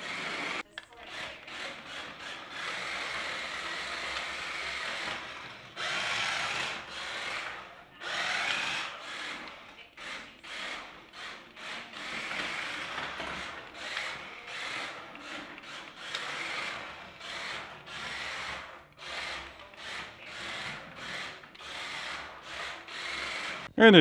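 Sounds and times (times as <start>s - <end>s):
toy car motor whirring: 0.0s - 23.7s
tyres rubbing on tile floor: 0.0s - 23.8s.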